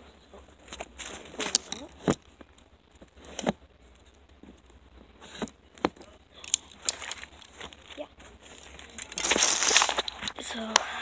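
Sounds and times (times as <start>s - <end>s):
arrow shafts clicking and scraping: 0.6s - 10.9s.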